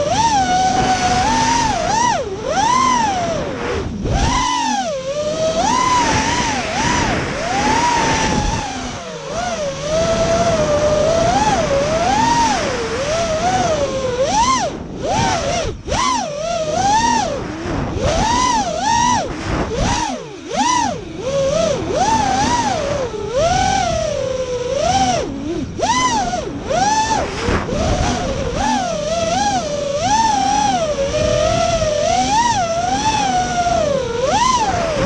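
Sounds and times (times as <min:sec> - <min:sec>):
drone motors whining: 0:00.0 - 0:35.0.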